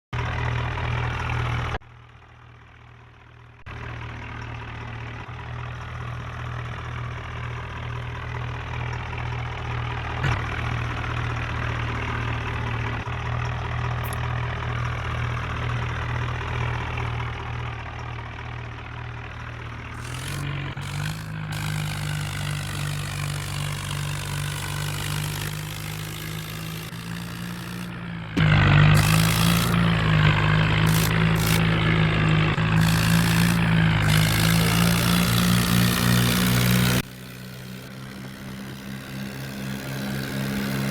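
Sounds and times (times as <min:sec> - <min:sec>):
tractor diesel engine running: 0:00.1 - 0:40.9.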